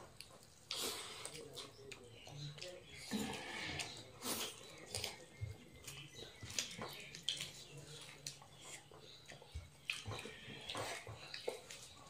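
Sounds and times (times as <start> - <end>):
chewing and mouth smacks: 0.0 - 12.0.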